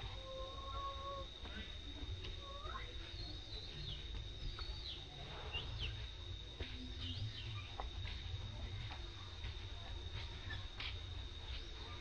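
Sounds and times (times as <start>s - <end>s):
steady high-pitched whine: 0.0s - 12.0s.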